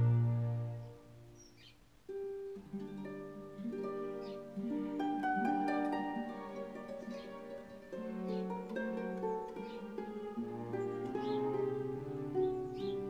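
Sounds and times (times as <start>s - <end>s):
gentle plucked string melody: 0.0s - 13.0s.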